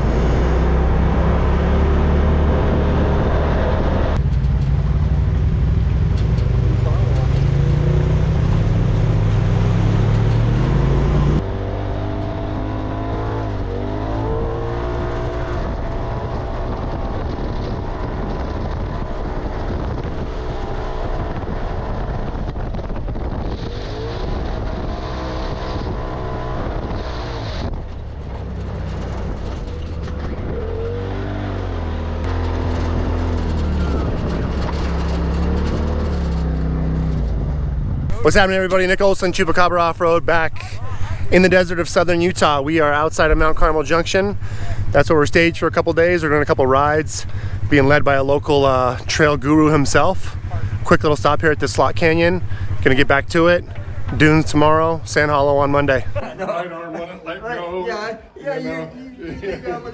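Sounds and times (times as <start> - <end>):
utility vehicle engines revving: 0.0 - 59.9.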